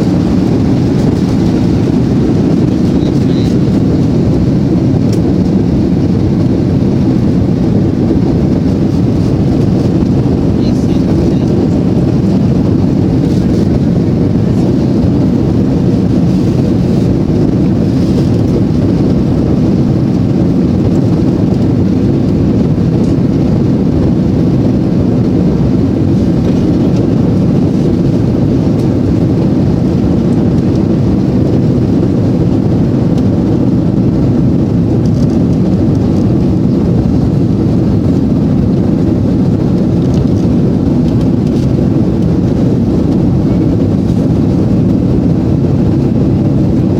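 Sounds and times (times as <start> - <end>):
jet engines deep rumble: 0.0 - 46.9.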